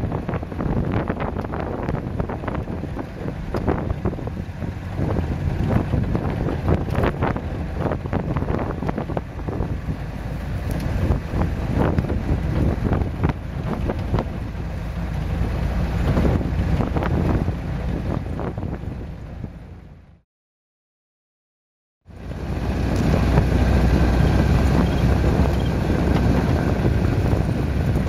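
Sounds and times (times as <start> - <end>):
wind buffeting microphone: 0.0 - 19.8, 22.2 - 28.0
low engine rumble: 0.0 - 20.2, 22.1 - 28.0.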